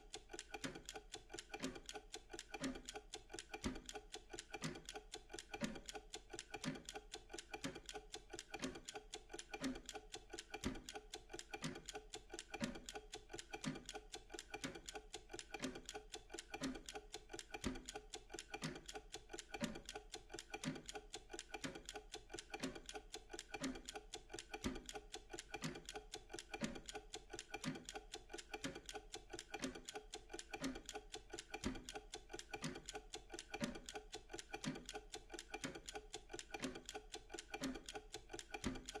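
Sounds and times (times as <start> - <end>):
clock ticking: 0.0 - 39.0.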